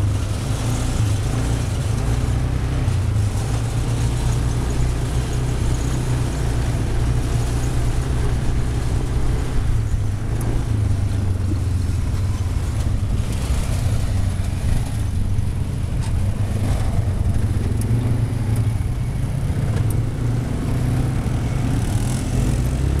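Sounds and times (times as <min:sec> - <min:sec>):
quad bike engines droning: 0:00.0 - 0:23.0.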